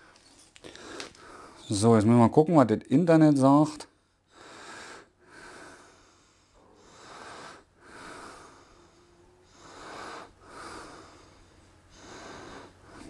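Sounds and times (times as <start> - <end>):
man breathing close: 0.0 - 1.7, 3.9 - 13.0.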